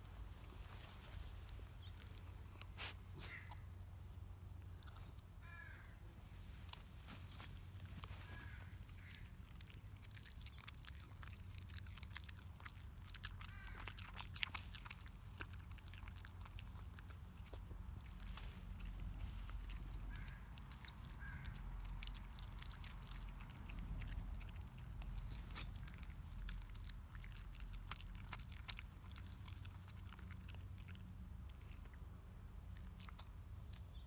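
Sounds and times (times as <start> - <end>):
dog chewing crunchy food: 1.5 - 5.5, 6.7 - 34.0.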